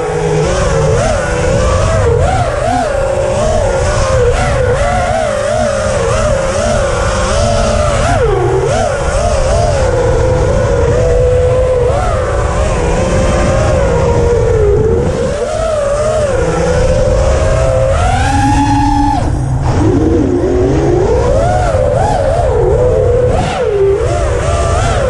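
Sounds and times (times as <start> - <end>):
quadcopter motors whining: 0.0 - 25.0
wind rumble on microphone: 0.0 - 25.0.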